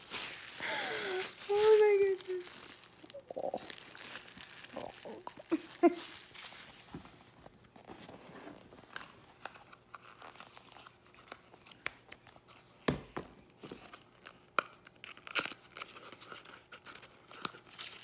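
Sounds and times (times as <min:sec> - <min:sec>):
packaging rustling and tearing: 0:00.0 - 0:12.7, 0:13.8 - 0:18.0.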